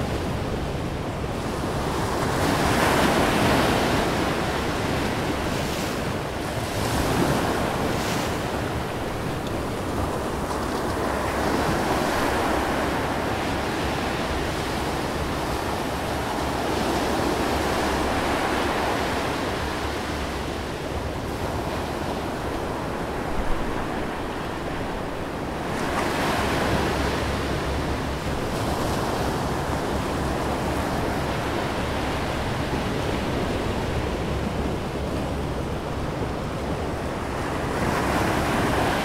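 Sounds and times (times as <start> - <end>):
ocean waves and surf: 0.0 - 39.0.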